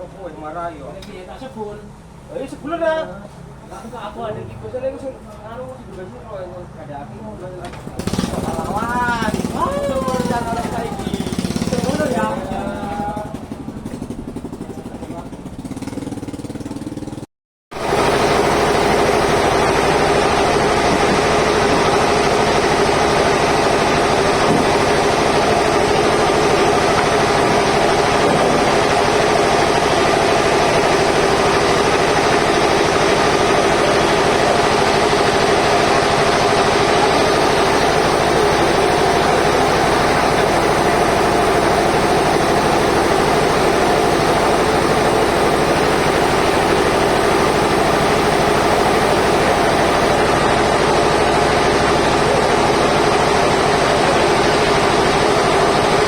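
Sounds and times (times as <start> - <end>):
sawmill machinery drone: 7.8 - 56.0.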